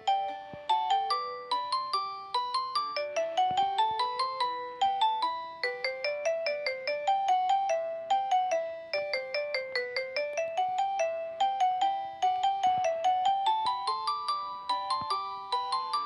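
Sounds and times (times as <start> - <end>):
phone ringtone melody: 0.0 - 16.0.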